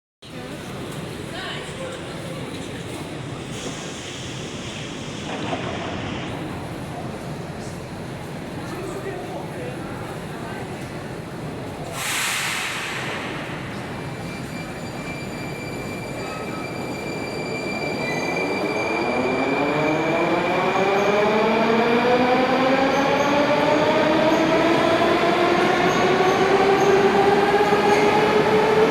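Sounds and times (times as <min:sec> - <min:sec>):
rail and wheel noise: 0:00.2 - 0:28.9.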